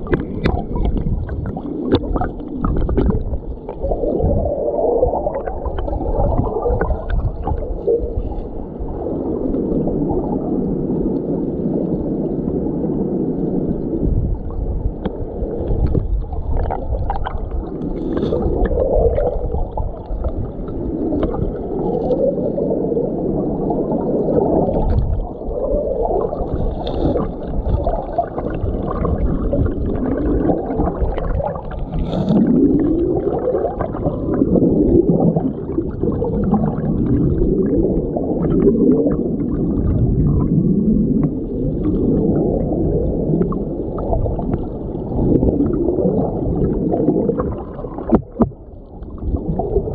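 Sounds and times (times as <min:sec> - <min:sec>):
muffled underwater stream rushing: 0:00.0 - 0:49.9.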